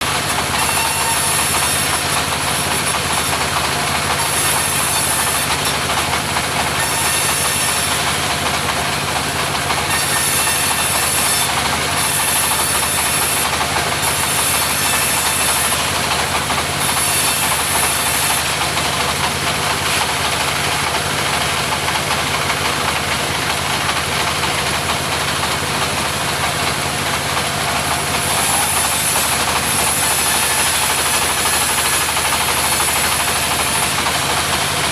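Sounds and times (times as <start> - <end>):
saw cutting timber: 0.0 - 34.9
sawmill engine humming: 0.0 - 34.9.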